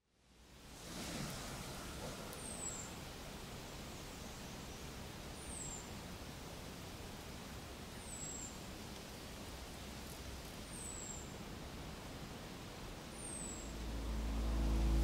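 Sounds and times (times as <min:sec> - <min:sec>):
low background hiss: 0:00.1 - 0:15.0.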